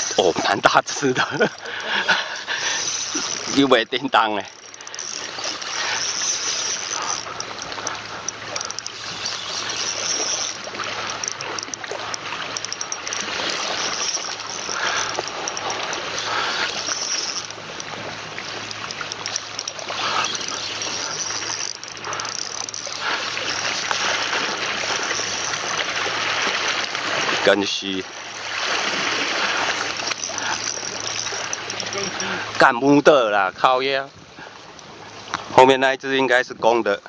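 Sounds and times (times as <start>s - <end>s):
water splashing over rocks: 0.0s - 33.2s.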